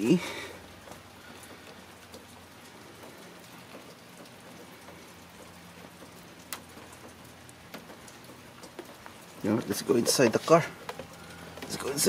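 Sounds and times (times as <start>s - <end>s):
drops ticking close by: 0.0s - 12.0s
steady rain falling: 0.0s - 12.0s.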